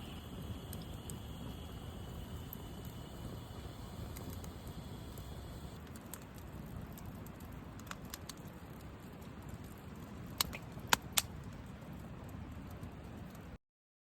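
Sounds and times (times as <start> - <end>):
campfire burning with pops: 0.0 - 13.6.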